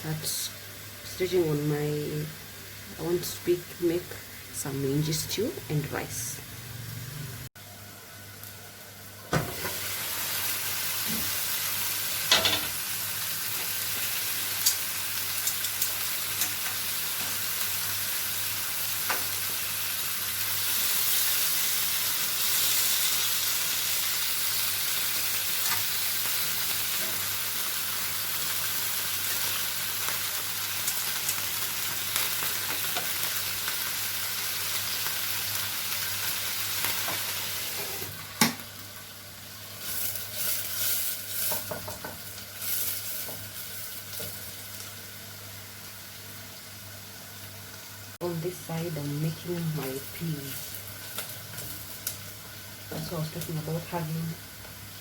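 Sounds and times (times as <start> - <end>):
meat sizzling in oil: 0.0 - 55.0.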